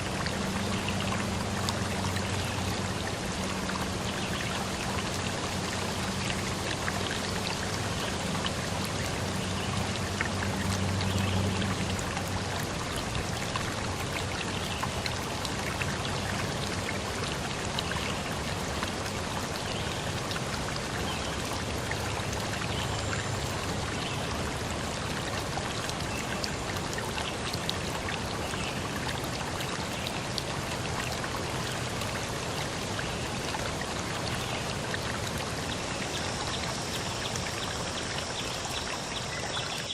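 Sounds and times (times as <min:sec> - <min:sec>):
rushing water with drips: 0:00.0 - 0:39.9.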